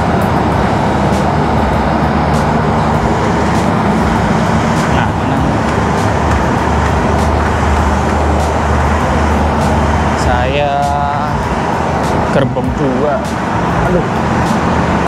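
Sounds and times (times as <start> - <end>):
standing train rumble and hum: 0.0 - 15.0.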